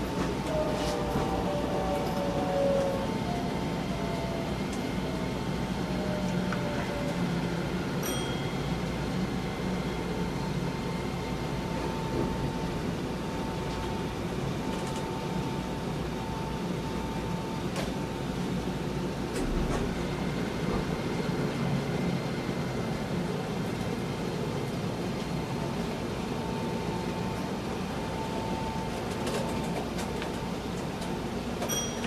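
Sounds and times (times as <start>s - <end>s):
train interior low rumble: 0.0s - 32.0s.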